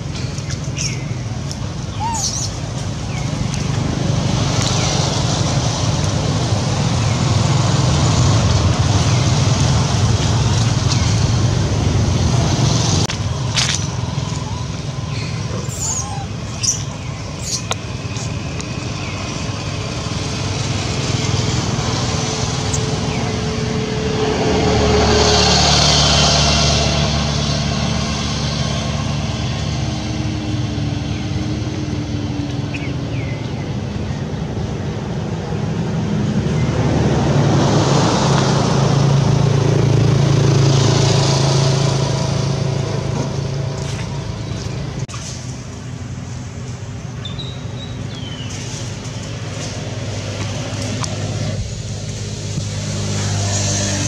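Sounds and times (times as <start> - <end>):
road traffic engine rumble: 0.0 - 54.0.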